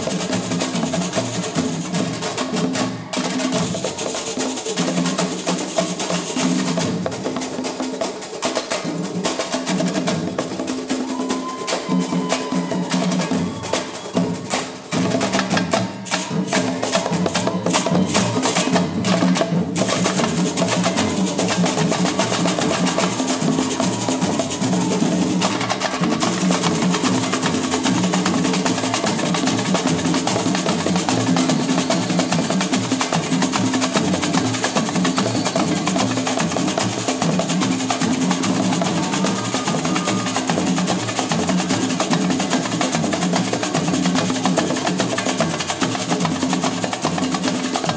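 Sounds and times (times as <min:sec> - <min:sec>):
hand drums playing: 0:00.0 - 0:47.9
percussion clacking: 0:00.0 - 0:47.9.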